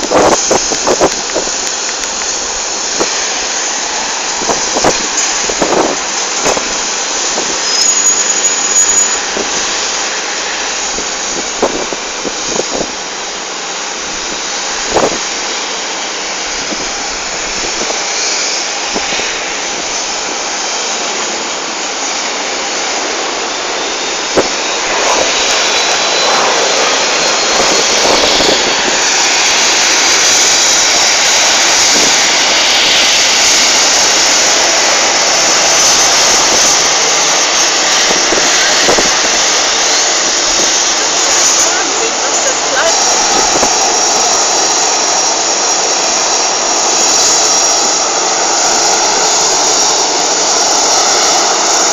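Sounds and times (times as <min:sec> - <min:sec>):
jet engines rushing: 0:00.0 - 0:51.9
faint rising whine: 0:06.0 - 0:51.9.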